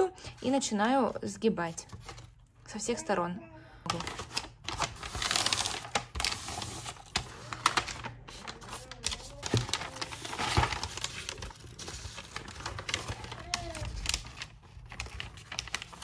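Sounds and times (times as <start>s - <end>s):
wrapping paper rustling and crackling: 0.2s - 2.4s, 3.9s - 16.0s.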